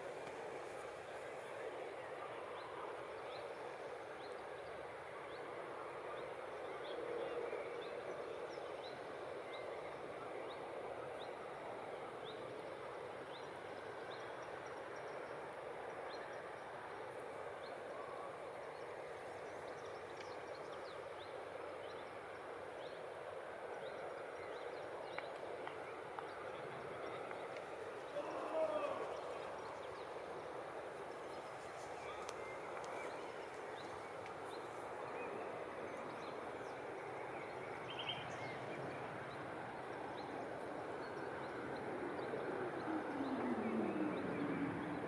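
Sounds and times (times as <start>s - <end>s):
outdoor background noise: 0.0s - 45.0s.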